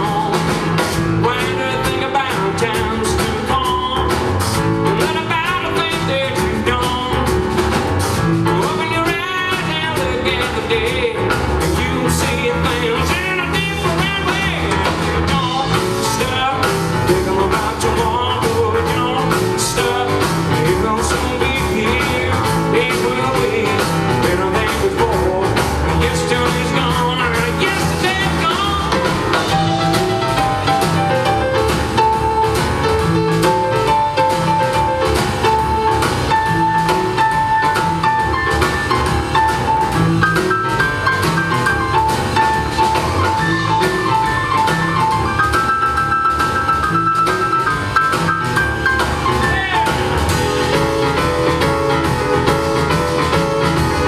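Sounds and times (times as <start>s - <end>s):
drum kit: 0.0s - 54.0s
piano: 0.0s - 54.0s
upright double bass: 0.0s - 54.0s.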